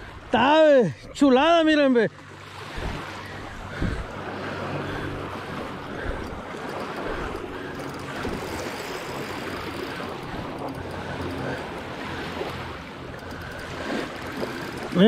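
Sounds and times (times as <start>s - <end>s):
water lapping: 0.0s - 15.0s
wind: 0.0s - 15.0s.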